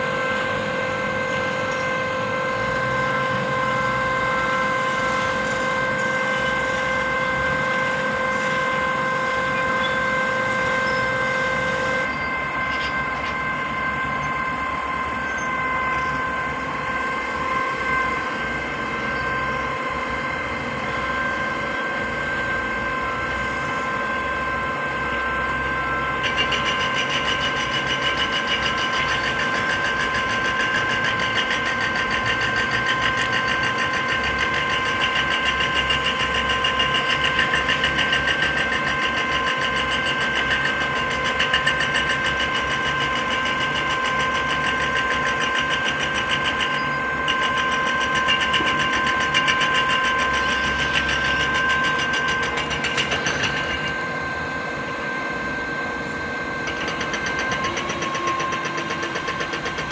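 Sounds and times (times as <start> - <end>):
hydraulic whine: 0.0 - 59.9.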